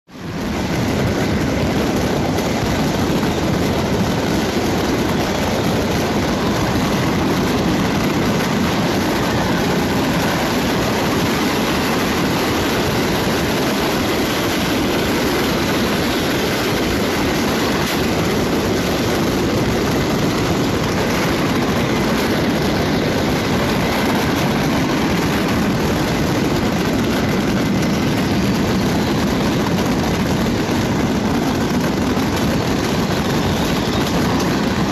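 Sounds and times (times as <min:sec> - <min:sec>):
fireworks banging and crackling: 0:00.0 - 0:34.9.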